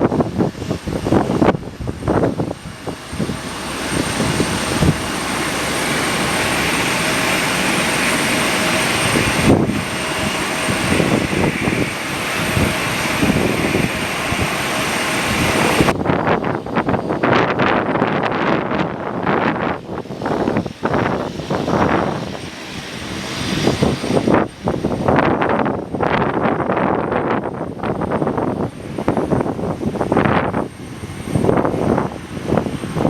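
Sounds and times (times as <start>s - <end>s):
airliner engines rushing: 0.0s - 33.0s
wind buffeting microphone: 0.0s - 33.0s.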